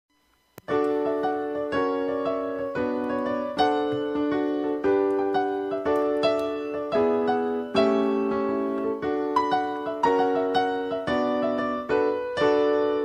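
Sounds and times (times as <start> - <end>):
piano chords: 0.7 - 13.0.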